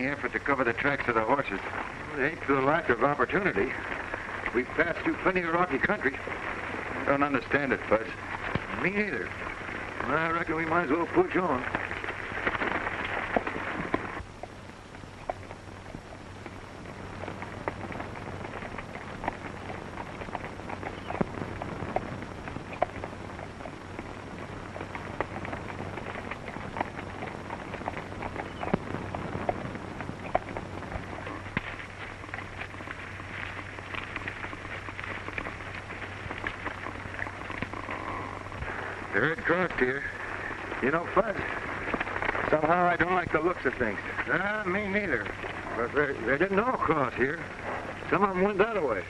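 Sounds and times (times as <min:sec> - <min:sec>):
film soundtrack hiss and hum: 0:00.0 - 0:49.0
hooves clopping on stony ground: 0:00.0 - 0:49.0.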